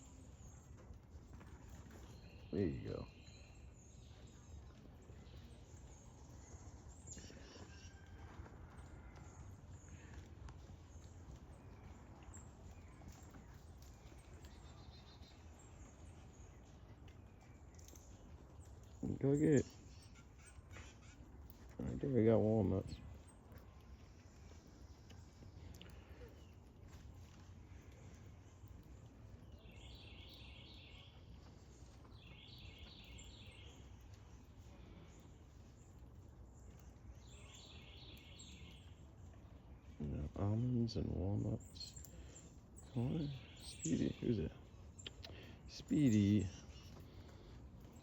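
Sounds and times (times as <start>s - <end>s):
faint high chirps and ticks: 0.0s - 48.0s.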